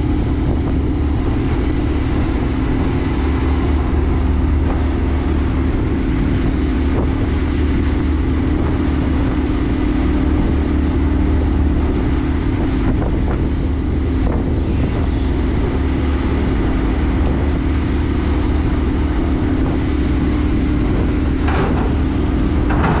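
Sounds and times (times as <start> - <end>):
ferry engine drone: 0.0 - 23.0
van rolling: 0.0 - 23.0.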